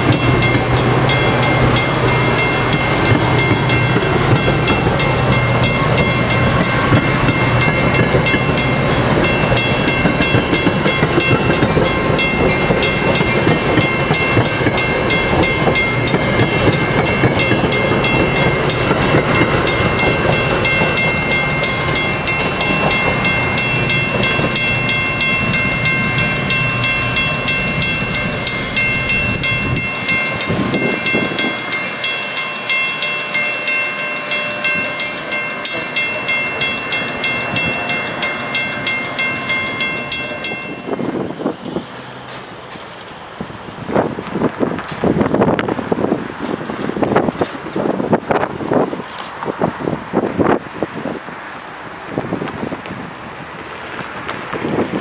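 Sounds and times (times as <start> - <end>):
train wheels clattering on rail: 0.0 - 55.0.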